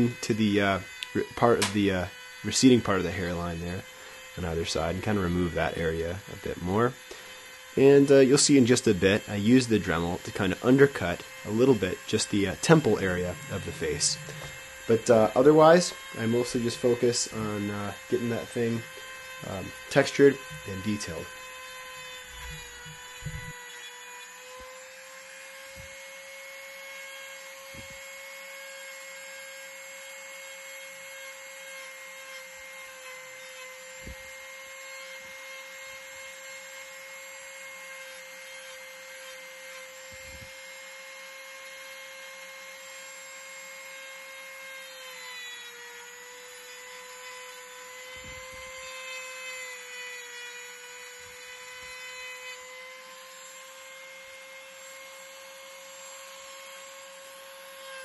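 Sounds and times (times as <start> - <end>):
rotary tool grinding wood: 0.0 - 58.0.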